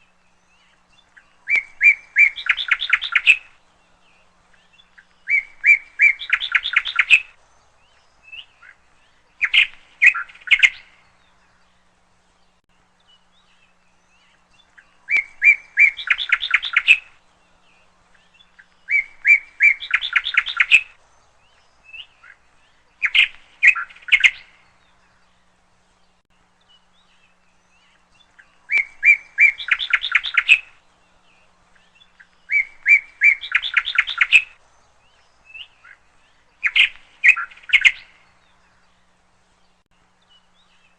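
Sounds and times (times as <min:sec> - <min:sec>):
small songbird singing: 0:00.0 - 0:40.9.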